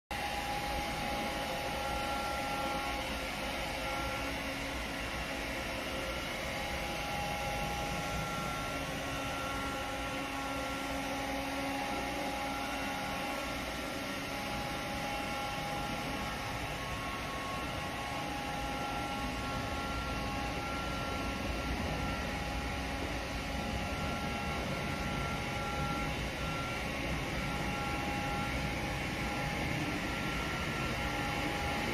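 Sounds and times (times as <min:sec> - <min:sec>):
robot vacuum hum: 0:00.2 - 0:31.9
thin whining tones: 0:00.2 - 0:31.9.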